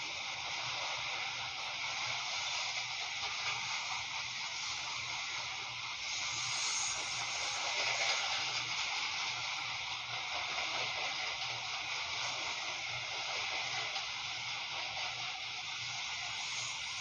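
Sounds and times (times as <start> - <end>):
train wheels hissing on rail: 0.0 - 17.0.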